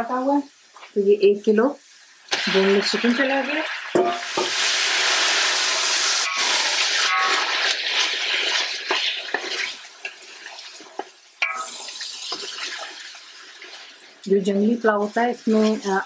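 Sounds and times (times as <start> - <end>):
chicken sizzling in hot oil: 0.5 - 16.0.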